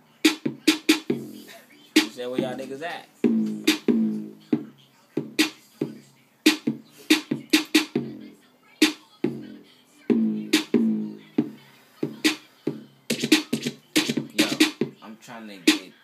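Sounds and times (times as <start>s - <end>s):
person beatboxing: 0.2s - 8.2s, 8.8s - 15.0s, 15.6s - 16.0s.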